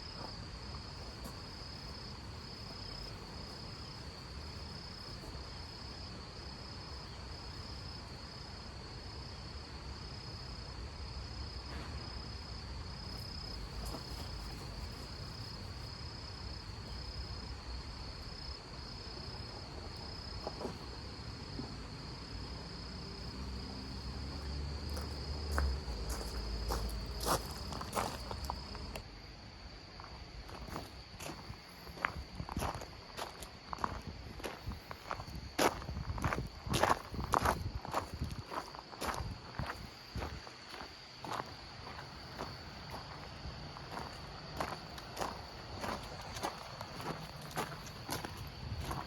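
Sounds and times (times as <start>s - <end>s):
cricket trilling: 0.0s - 49.0s.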